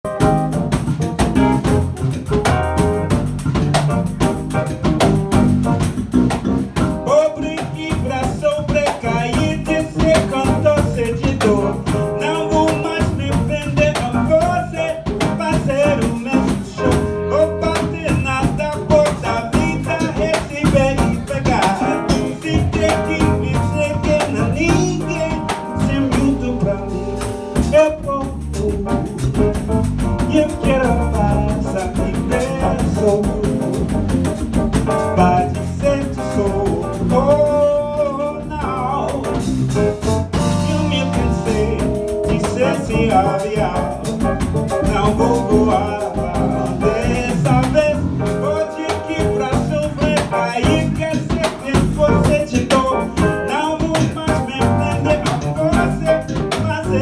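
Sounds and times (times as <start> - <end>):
bass: 0.0 - 57.0
pandeiro and drum groove: 0.0 - 57.0
piano: 0.0 - 57.0.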